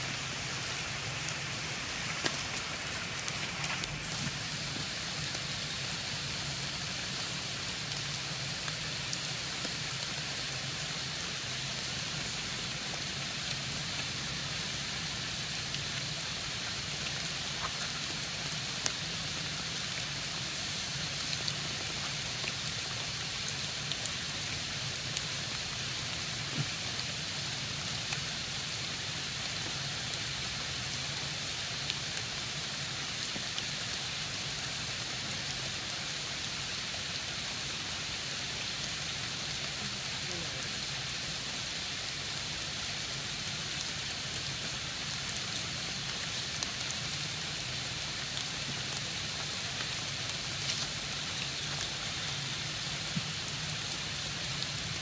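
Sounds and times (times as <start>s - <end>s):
rain on rocks and foliage: 0.0s - 55.0s.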